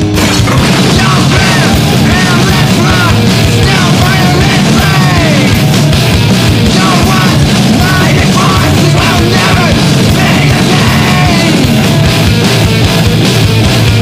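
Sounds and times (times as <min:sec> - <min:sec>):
loud screamo band music: 0:00.0 - 0:14.0
sliding high pitches: 0:00.2 - 0:12.8.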